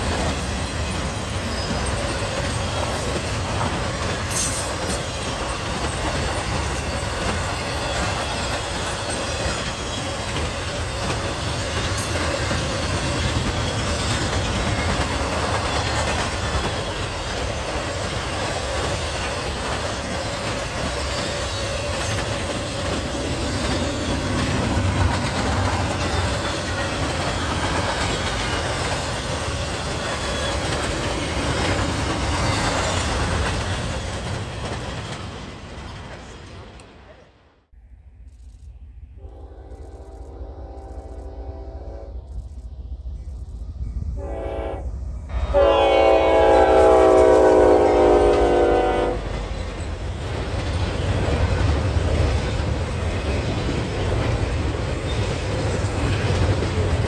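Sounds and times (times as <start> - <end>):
freight train cars rolling past: 0.0 - 37.5, 38.7 - 57.0.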